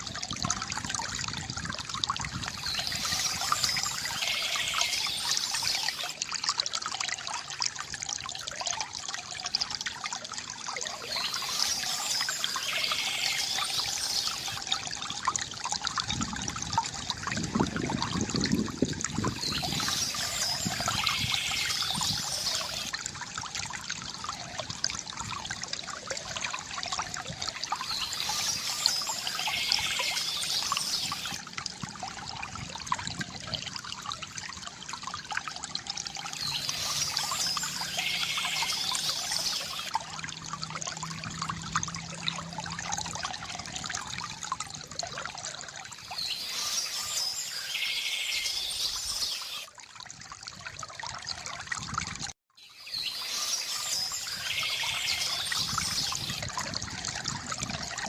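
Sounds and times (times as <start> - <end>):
deep gush of water: 0.0 - 58.0
water trickling from bamboo fountain: 0.0 - 58.0.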